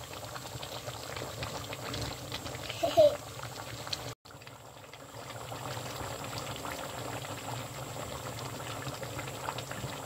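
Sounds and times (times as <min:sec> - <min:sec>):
curry bubbling in a pan: 0:00.0 - 0:10.0.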